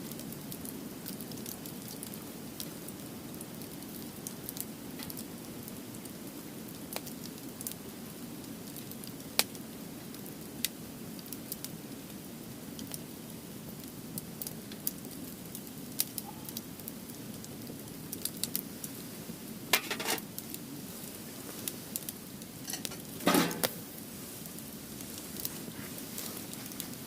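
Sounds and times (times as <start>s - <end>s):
firewood crackling and popping: 0.0s - 27.0s.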